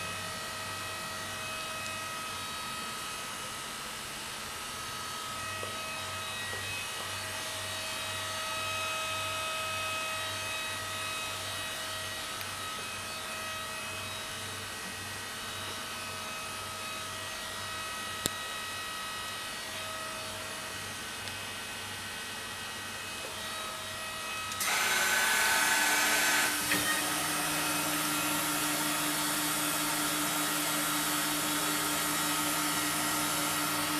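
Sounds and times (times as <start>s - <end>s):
woodworking router whine: 0.0s - 33.9s.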